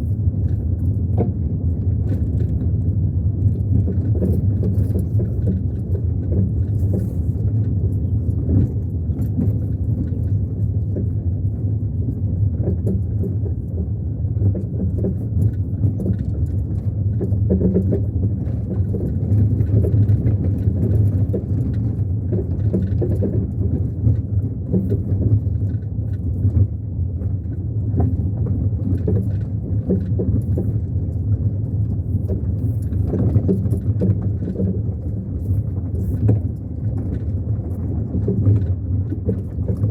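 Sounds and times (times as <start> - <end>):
car engine and road rumble: 0.0 - 39.9
small rattles and knocks: 0.0 - 39.9.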